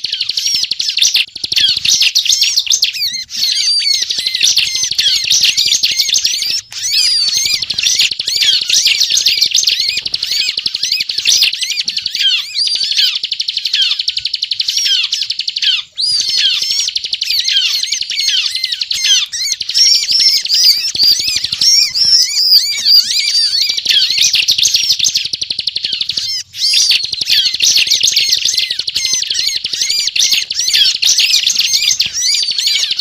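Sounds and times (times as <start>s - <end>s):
bird singing rapid chattering song: 0.0s - 33.0s.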